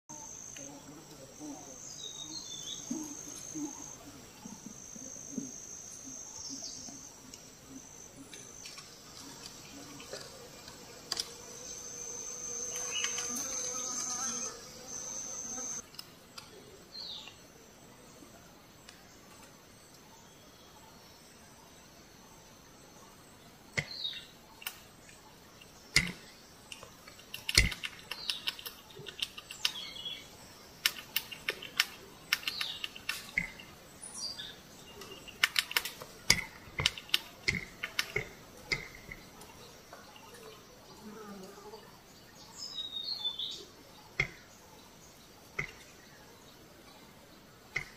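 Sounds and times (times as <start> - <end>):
bird chirps: 0.1 - 15.8, 23.8 - 41.0, 42.0 - 47.9
insects buzzing trill: 0.1 - 47.9.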